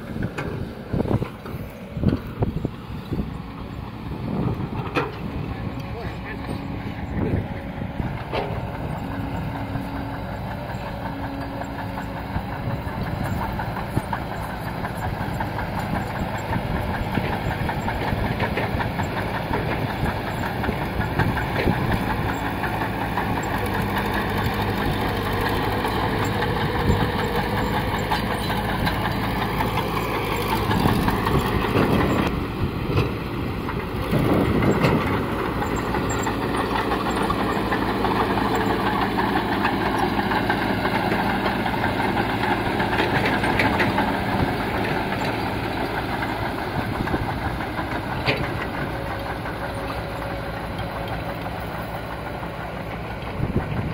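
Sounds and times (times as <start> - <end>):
bulldozer diesel engine under load: 0.0 - 53.9
steel tracks clanking: 4.4 - 53.9.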